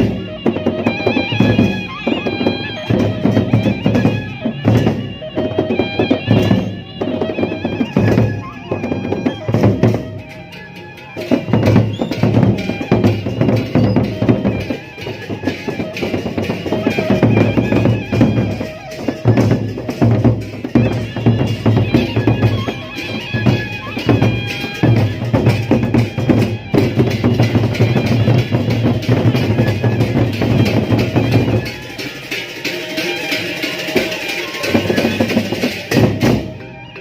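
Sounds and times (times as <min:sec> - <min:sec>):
large drums beating: 0:00.0 - 0:36.9
bamboo flute melody: 0:00.0 - 0:37.0.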